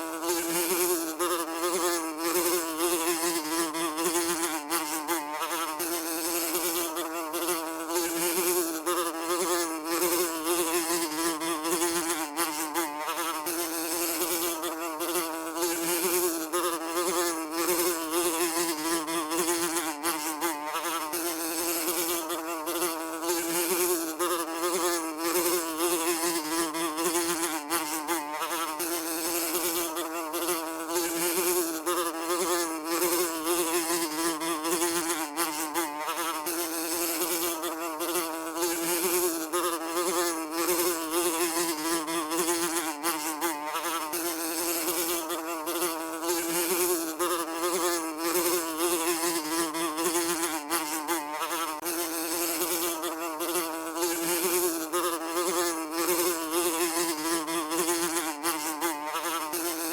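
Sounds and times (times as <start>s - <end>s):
housefly buzzing: 0.0s - 59.9s.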